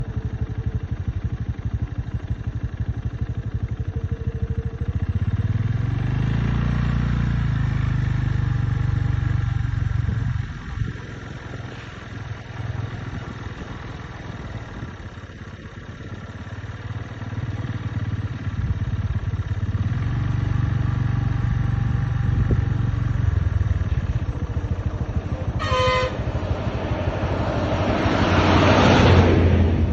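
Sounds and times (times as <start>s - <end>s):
vehicle engine humming: 0.0s - 29.9s.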